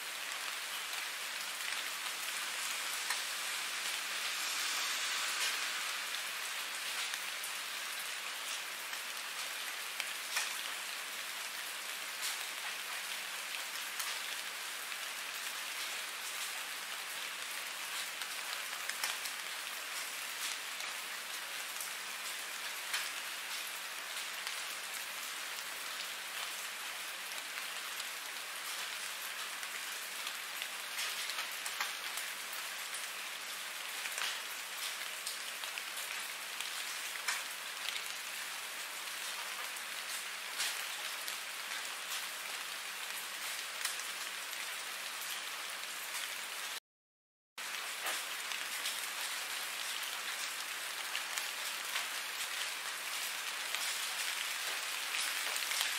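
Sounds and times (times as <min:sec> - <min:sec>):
rain on hard surface: 0:00.0 - 0:46.8, 0:47.6 - 0:55.9.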